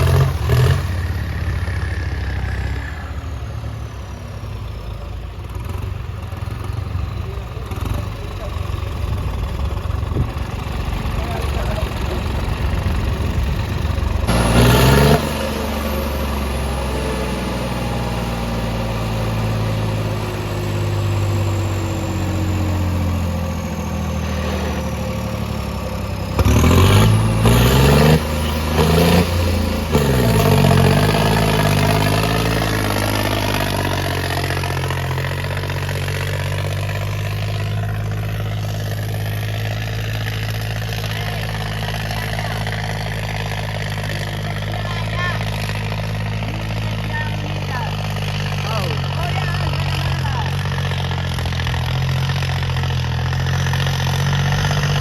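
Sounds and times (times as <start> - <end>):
tractor diesel engine idling and revving: 0.0 - 55.0.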